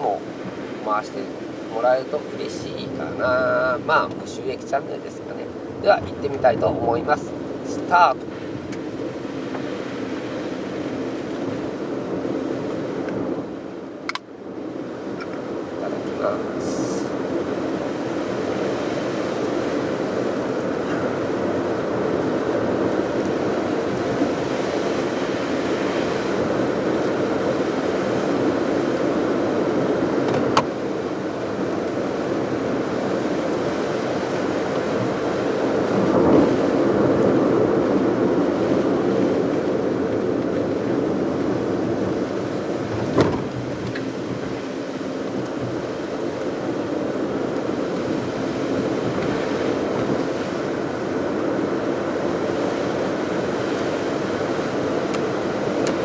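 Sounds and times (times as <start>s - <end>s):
car tyre road rumble: 0.0s - 56.0s.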